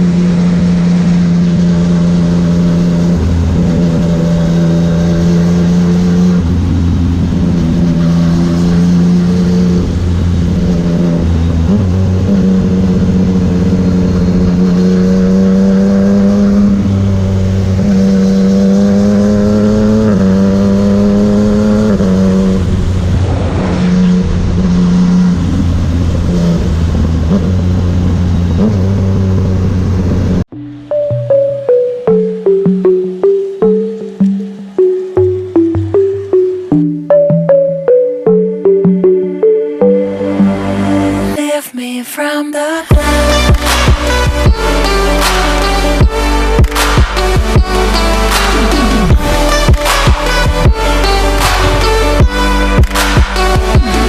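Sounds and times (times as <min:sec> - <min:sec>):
motorcycle engine accelerating: 0:00.0 - 0:41.4, 0:42.9 - 0:54.0.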